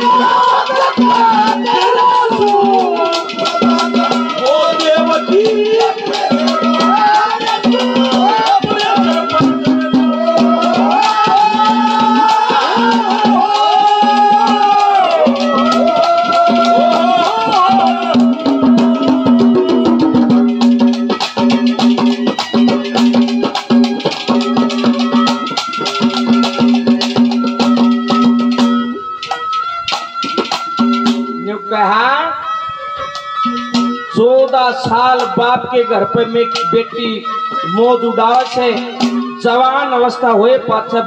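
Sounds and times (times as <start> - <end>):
drums: 0.0 - 32.0, 33.0 - 41.0
jingling percussion: 0.0 - 41.0
lead melody instrument bending notes: 0.0 - 41.0.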